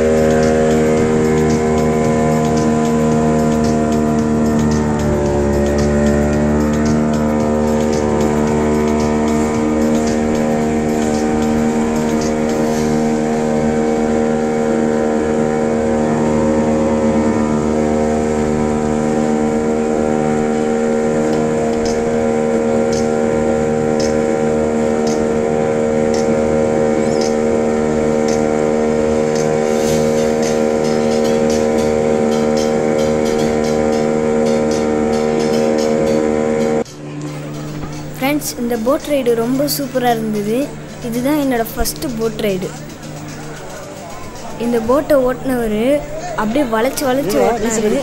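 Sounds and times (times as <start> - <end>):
motorboat engine droning: 0.0 - 48.0.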